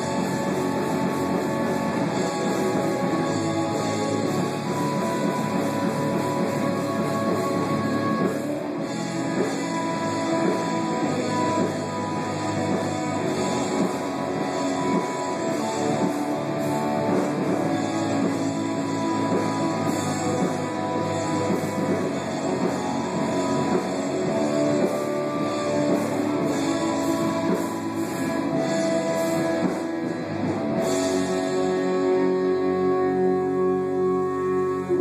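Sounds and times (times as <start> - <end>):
rock music with guitar: 0.0 - 35.0.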